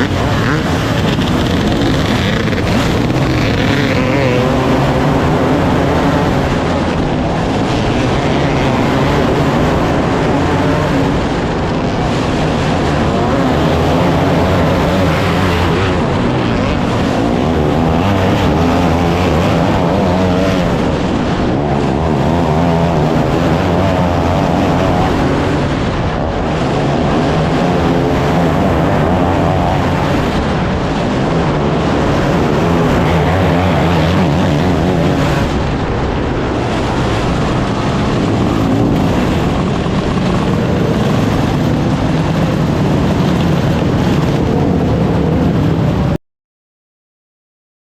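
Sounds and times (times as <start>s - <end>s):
engine running loud: 0.0s - 46.2s.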